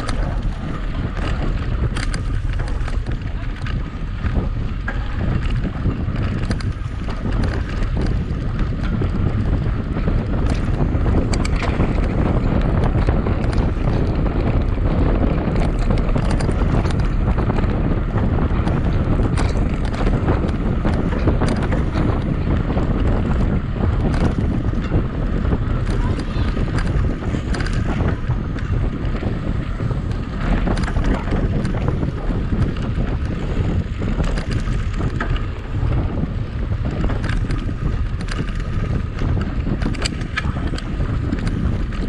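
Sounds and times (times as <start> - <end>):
bike clicks and knocks: 0.0 - 42.0
low rumble from bike ride: 0.0 - 42.0
wind noise on microphone: 0.0 - 42.0.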